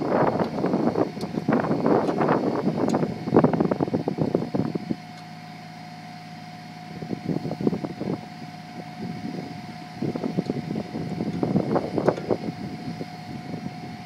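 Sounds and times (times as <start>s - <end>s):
machine whine: 0.0s - 14.0s
tractor engine hum: 0.0s - 14.0s.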